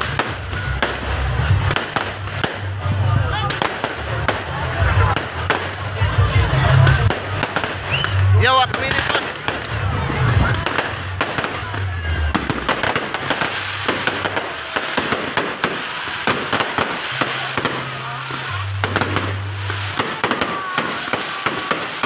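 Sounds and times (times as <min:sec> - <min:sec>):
fireworks pops and crackles: 0:00.0 - 0:22.0.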